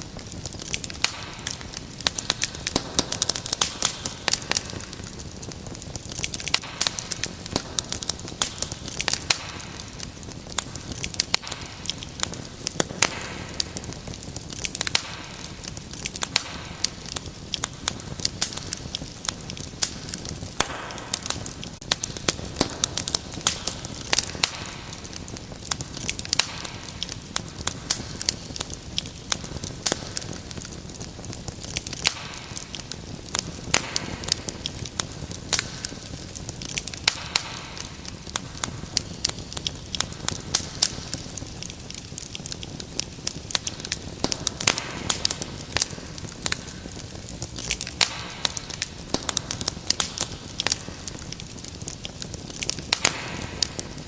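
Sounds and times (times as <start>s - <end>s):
low rumbling hiss of flame: 0.0s - 54.0s
wood fire crackling: 0.0s - 54.0s.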